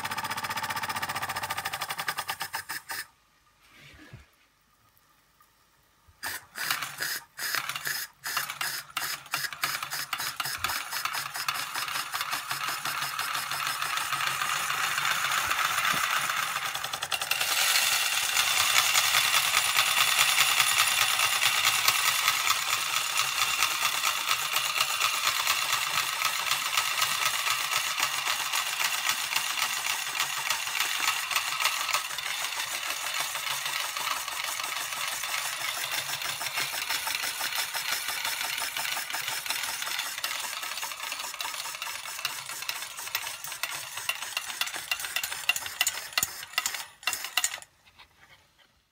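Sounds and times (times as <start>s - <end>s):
toy steam engine chuffing: 0.0s - 3.1s, 6.2s - 47.7s
tin toy rattling: 6.2s - 47.7s.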